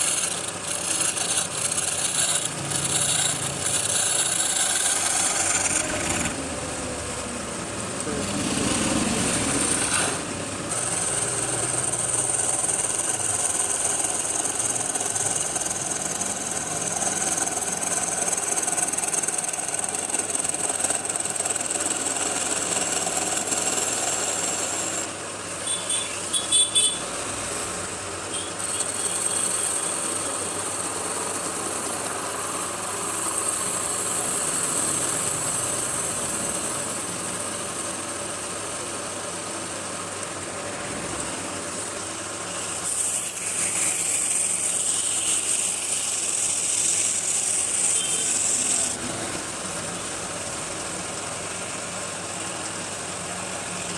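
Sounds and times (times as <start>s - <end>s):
wood lathe running: 0.0s - 53.9s.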